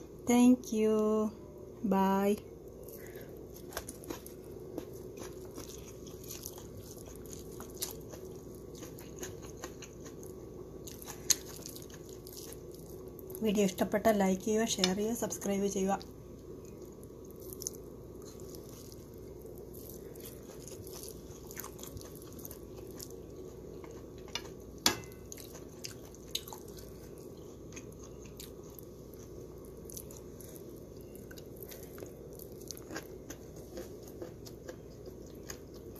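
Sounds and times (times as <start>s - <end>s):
steady low hum: 0.0s - 35.9s
chewing: 2.8s - 13.4s, 16.6s - 35.9s.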